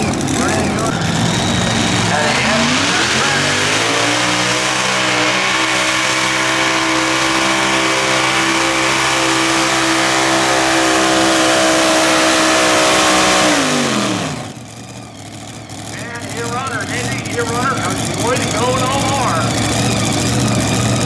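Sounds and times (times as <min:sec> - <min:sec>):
racing engine at full throttle: 0:00.0 - 0:21.0.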